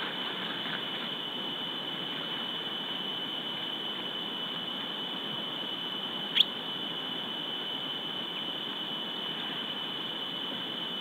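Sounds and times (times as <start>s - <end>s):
steady hiss with high whine: 0.0s - 11.0s.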